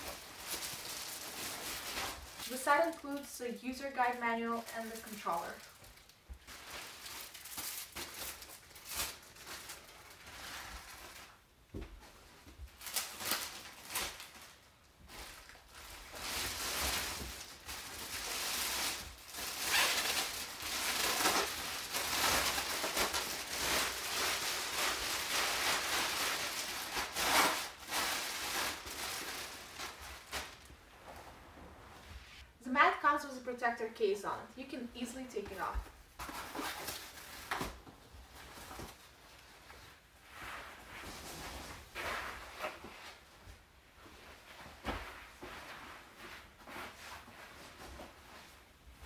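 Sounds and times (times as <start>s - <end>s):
plastic wrapping crinkling: 0.0s - 31.3s, 35.3s - 48.6s.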